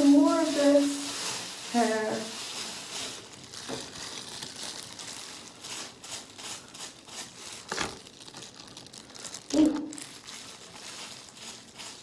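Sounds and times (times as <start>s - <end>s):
hair rustling: 0.0s - 12.0s.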